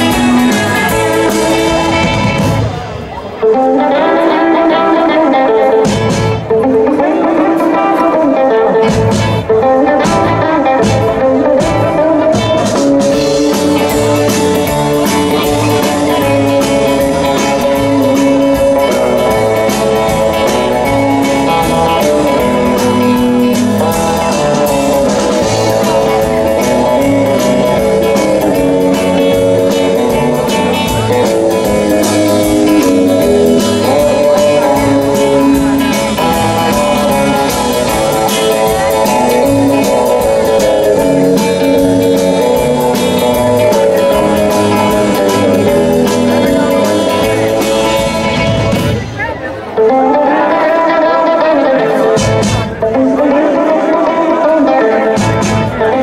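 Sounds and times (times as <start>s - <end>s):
electric guitar: 0.0s - 56.0s
live rock band music: 0.0s - 56.0s.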